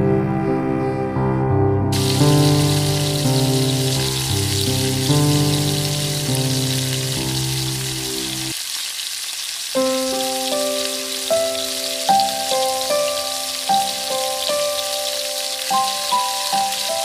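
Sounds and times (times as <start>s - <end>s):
melodic background music: 0.0s - 8.5s, 9.8s - 17.0s
rice sizzling in a pot: 2.0s - 17.0s.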